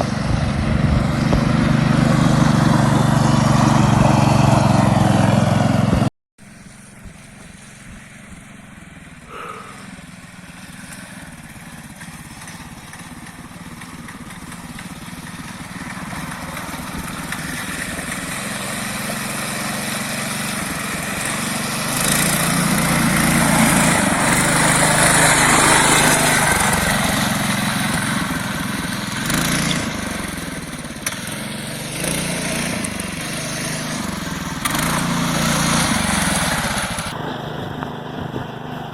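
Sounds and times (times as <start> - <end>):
motorcycle engine in mud: 0.0 - 38.9.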